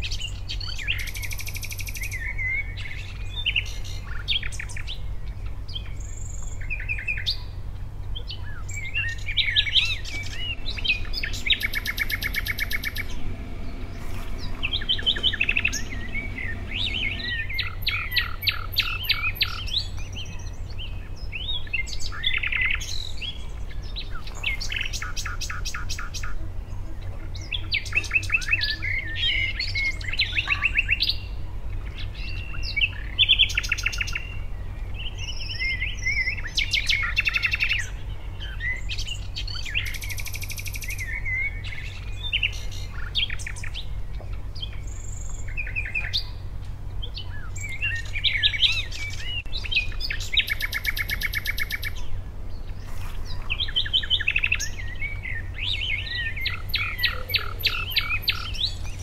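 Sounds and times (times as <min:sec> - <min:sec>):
songbirds chirping and singing: 0:00.0 - 0:59.0
steady low hum: 0:00.0 - 0:59.0.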